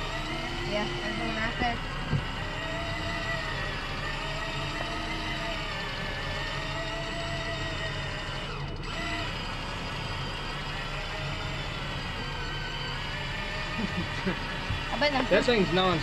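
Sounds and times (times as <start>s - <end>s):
electric fishing reel motor whine: 0.0s - 16.0s
low engine hum: 0.0s - 16.0s.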